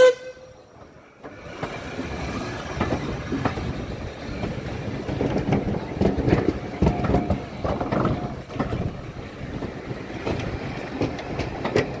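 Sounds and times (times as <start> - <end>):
train wheels knocking over rail joints: 0.8 - 12.0.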